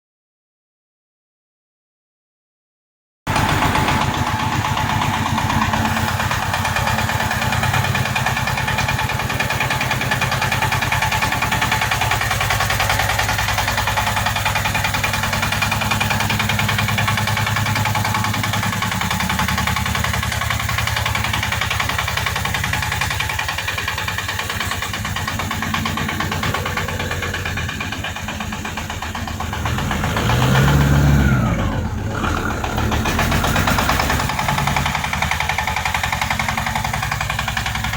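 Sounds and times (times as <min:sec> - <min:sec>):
tracked tractor engine running: 0:03.3 - 0:37.9.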